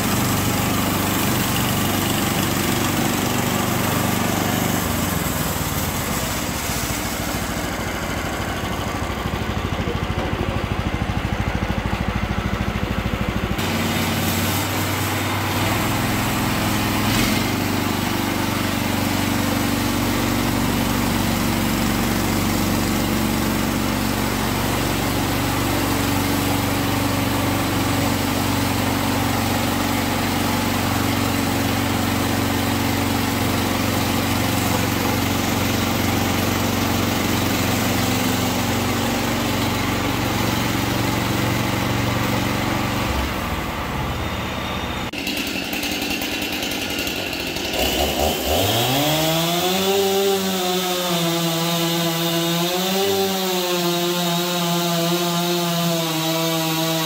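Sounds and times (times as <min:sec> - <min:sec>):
sawmill gas engine running: 0:00.0 - 0:57.0.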